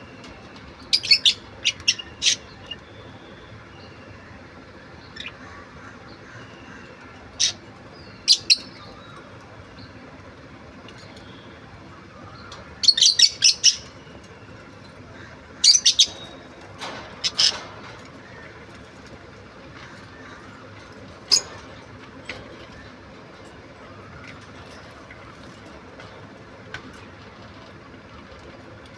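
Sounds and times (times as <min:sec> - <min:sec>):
low background hum: 0:00.0 - 0:28.9.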